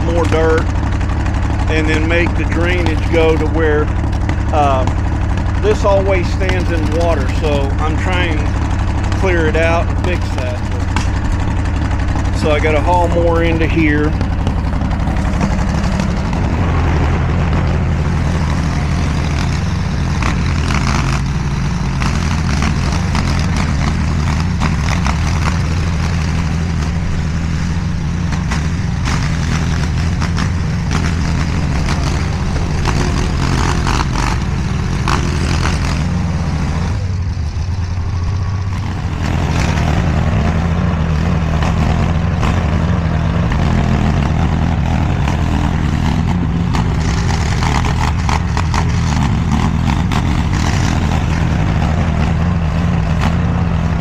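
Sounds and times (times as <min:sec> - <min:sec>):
clatter: 0:00.0 - 0:54.0
engine running under load: 0:00.0 - 0:54.0.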